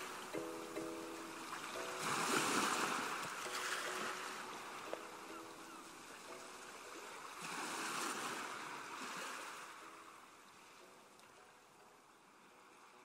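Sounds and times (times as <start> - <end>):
surf washing up a beach: 0.0 - 11.0.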